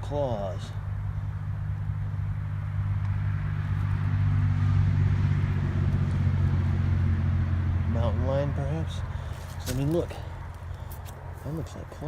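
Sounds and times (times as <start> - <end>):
highway traffic drone: 0.0 - 12.0.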